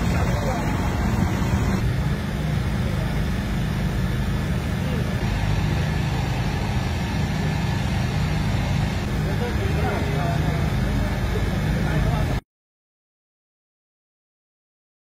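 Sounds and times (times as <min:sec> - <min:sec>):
faint voices: 0:00.0 - 0:12.4
loud low engine-like rumble: 0:00.0 - 0:12.4.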